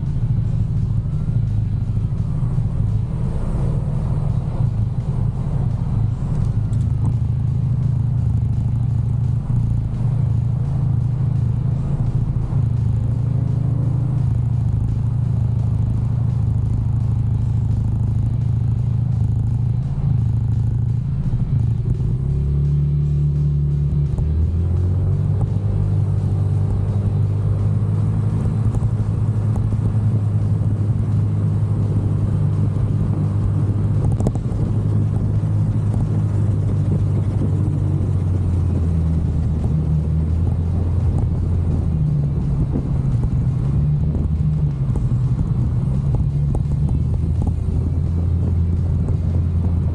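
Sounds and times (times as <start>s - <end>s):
scooter engine running: 0.0s - 49.9s
wind rumble: 0.0s - 49.9s.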